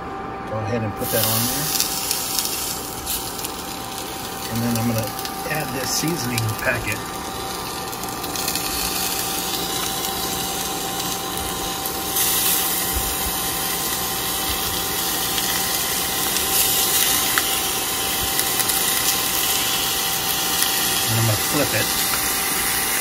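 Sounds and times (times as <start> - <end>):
meat sizzling in a skillet: 1.0 - 23.0.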